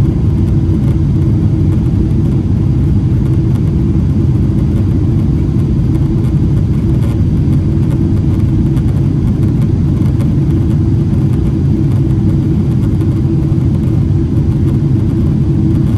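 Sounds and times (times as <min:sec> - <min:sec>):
airliner engines rumbling in cabin: 0:00.0 - 0:15.9.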